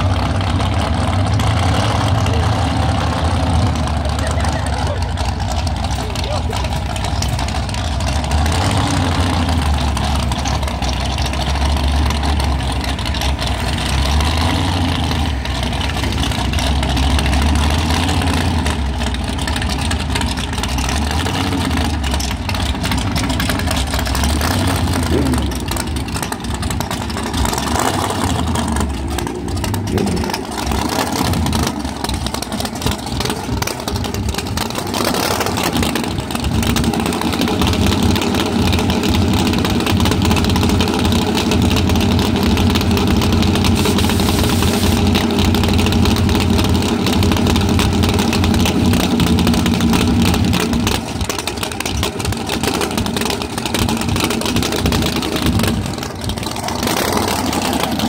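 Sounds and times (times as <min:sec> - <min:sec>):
drag car engine idling: 0:00.0 - 0:58.0
race car engine: 0:00.0 - 0:58.0.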